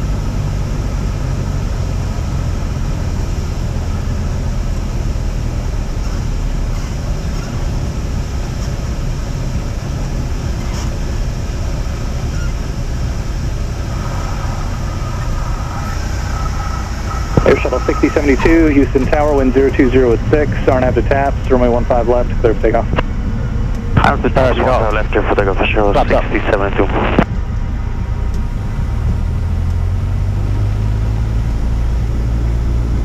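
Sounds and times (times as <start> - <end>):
airplane engine droning: 0.0 - 33.0.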